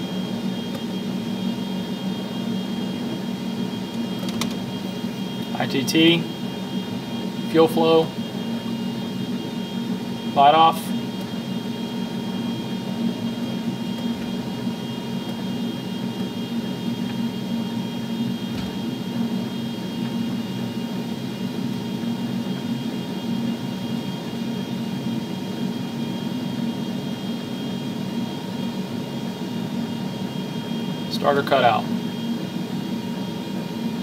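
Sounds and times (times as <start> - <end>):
high whining tones: 0.0 - 34.0
jet engine spooling up: 0.0 - 34.0.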